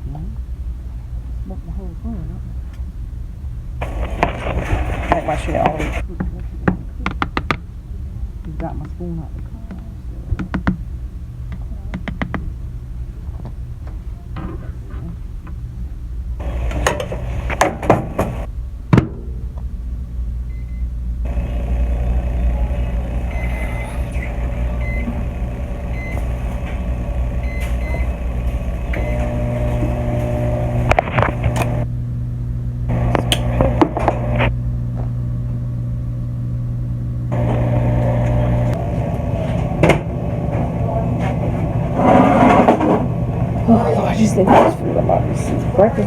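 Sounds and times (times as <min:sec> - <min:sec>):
microwave oven humming: 0:00.0 - 0:46.0.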